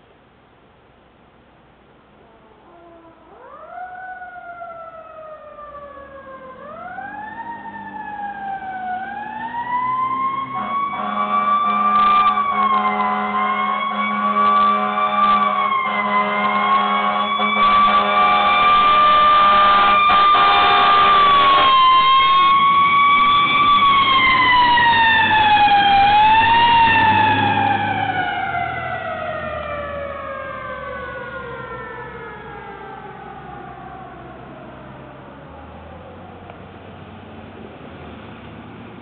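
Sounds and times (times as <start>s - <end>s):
fire engine siren wailing: 2.2s - 37.6s.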